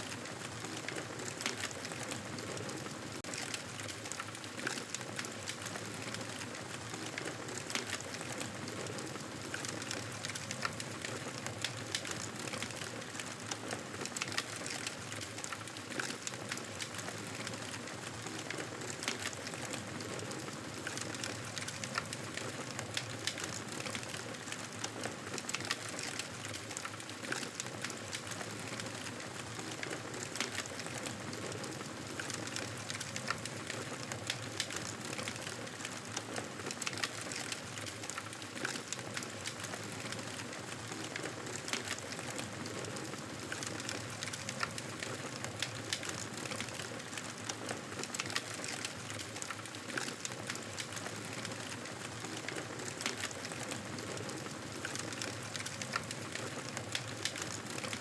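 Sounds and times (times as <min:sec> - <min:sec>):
wood crackling and popping: 0:00.0 - 0:58.0.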